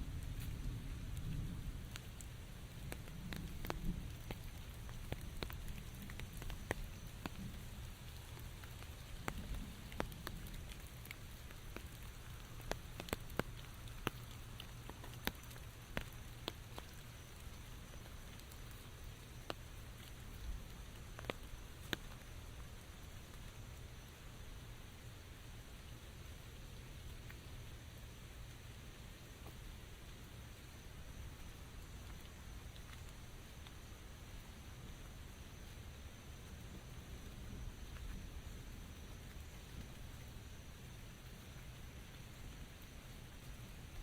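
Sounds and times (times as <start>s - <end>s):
raindrops ticking on surfaces: 0.0s - 44.0s
steady rain: 0.0s - 44.0s.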